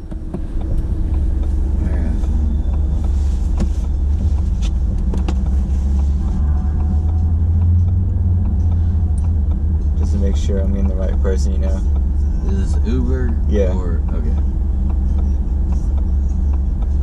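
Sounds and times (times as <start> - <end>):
car cabin rumble: 0.0 - 17.0
faint clicks and taps: 0.0 - 17.0.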